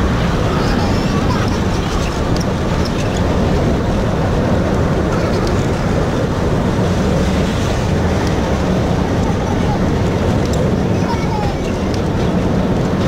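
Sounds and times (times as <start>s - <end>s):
tram rumbling on track: 0.0s - 13.0s.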